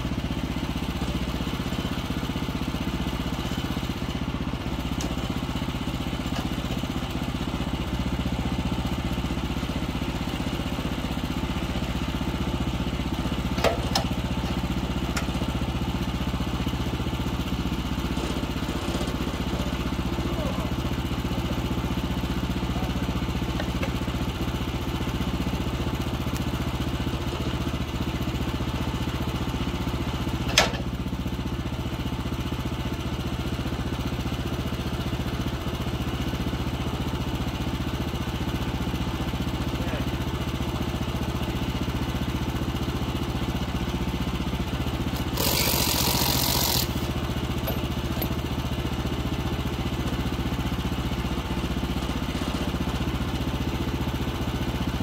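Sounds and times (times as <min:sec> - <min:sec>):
gas engine idling: 0:00.0 - 0:55.0.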